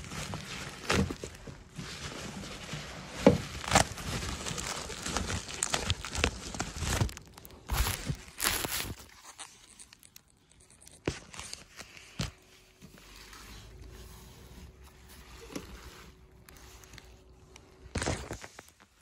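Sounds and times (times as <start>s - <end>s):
packaging rustling and scraping: 0.0s - 19.0s.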